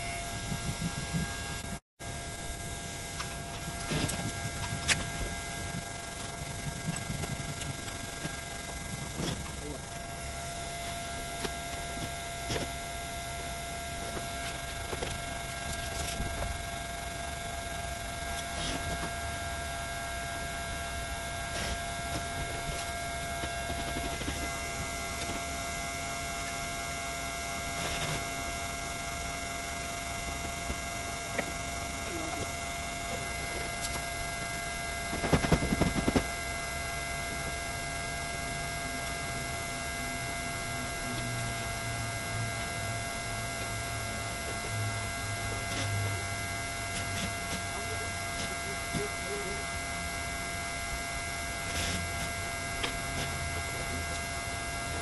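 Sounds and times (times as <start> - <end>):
steady electric hum: 0.0 - 55.0.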